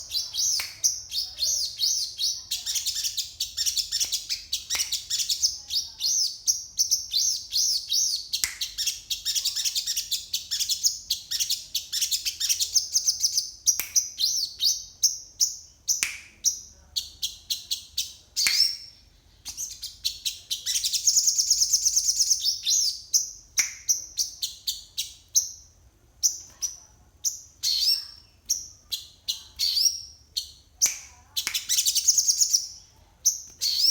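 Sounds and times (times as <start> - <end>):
songbird singing chirps and trills: 0.0 - 33.9.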